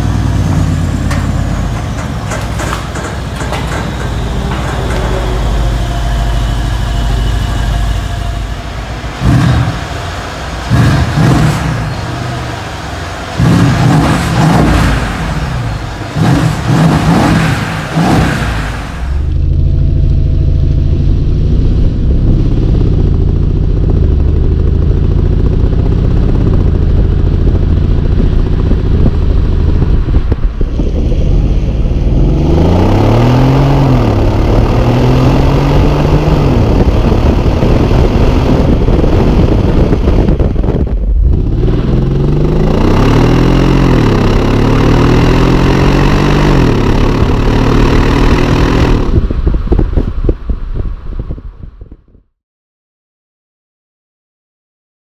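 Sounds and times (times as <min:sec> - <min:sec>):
tyre and wind rush: 0:00.0 - 0:19.6, 0:24.9 - 0:52.2
car engine accelerating: 0:00.0 - 0:51.9.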